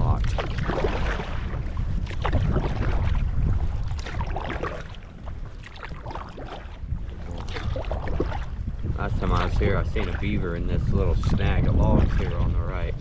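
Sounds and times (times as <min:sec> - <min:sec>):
paddle strokes splashing: 0:00.0 - 0:11.4
wind rumble on microphone: 0:00.0 - 0:13.0.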